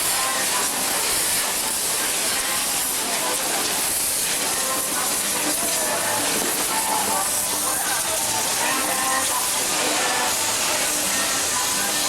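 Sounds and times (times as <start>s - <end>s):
loud steady hiss: 0.0s - 12.0s
faint voices: 2.3s - 12.0s.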